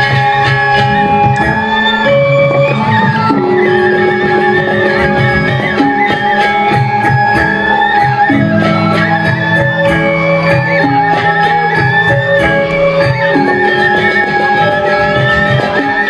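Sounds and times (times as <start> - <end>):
gamelan metallophones and gongs: 0.0 - 16.0
high wavering melody: 0.0 - 16.0.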